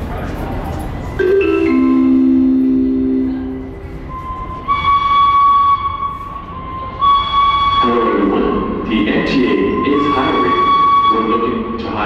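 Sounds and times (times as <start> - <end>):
subway train high-pitched tone: 0.1 - 12.0.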